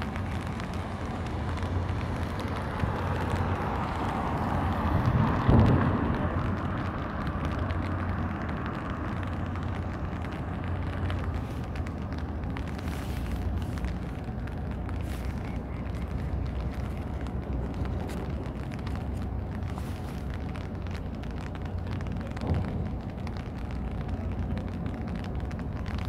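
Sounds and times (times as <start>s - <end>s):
outdoor rumble with low hum: 0.0s - 26.0s.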